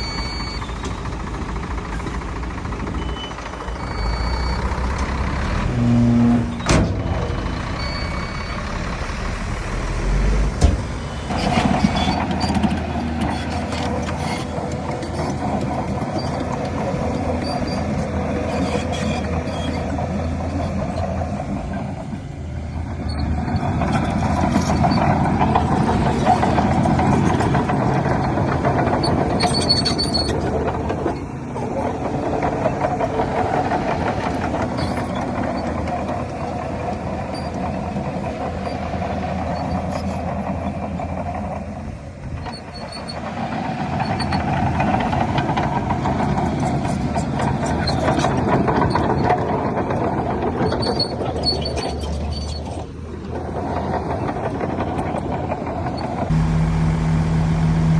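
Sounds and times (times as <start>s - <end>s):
bulldozer working soil: 0.0s - 57.9s
dump truck diesel engine: 0.0s - 57.9s.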